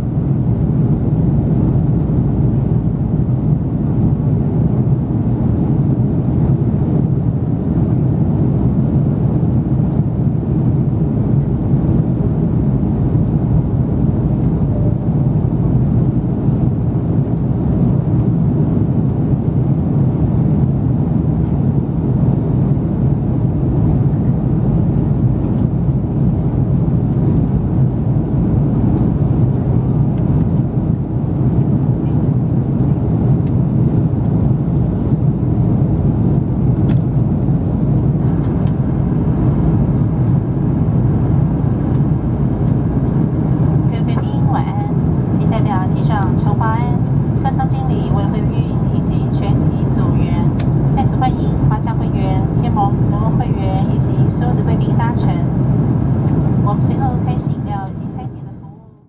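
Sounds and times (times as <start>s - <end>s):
airplane cabin engine and airflow noise: 0.0s - 59.0s.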